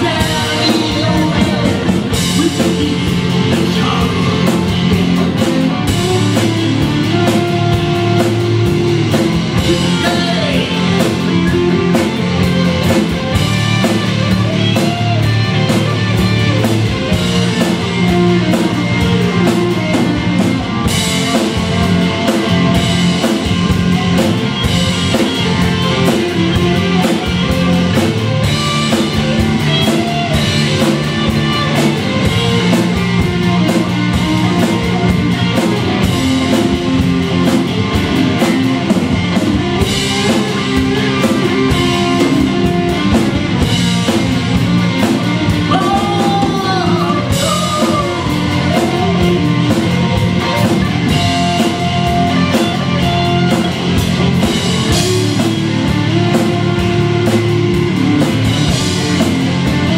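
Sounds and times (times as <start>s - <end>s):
drum kit with cymbals: 0.0s - 59.9s
electric bass: 0.0s - 59.9s
electric guitars: 0.0s - 59.9s.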